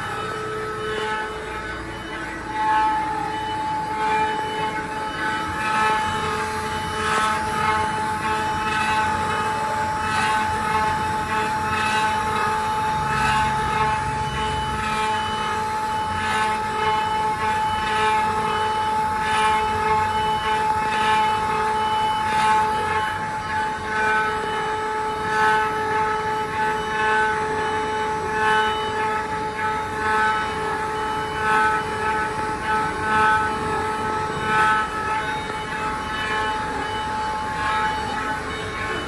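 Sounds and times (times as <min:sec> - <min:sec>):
router spindles whining: 0:00.0 - 0:39.0.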